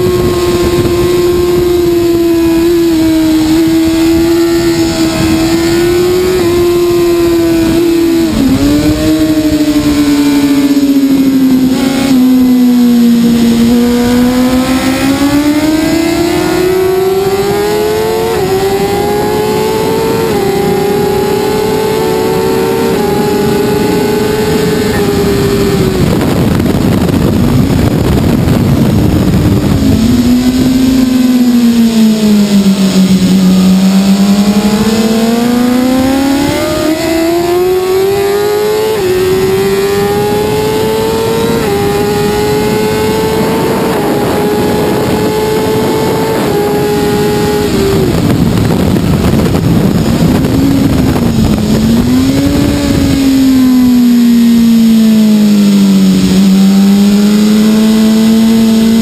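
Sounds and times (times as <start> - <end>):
motorcycle engine at high revs: 0.0 - 59.0
wind rush: 0.0 - 59.0.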